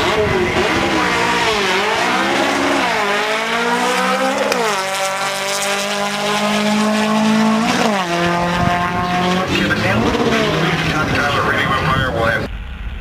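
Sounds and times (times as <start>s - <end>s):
car engine accelerating hard: 0.0s - 12.5s.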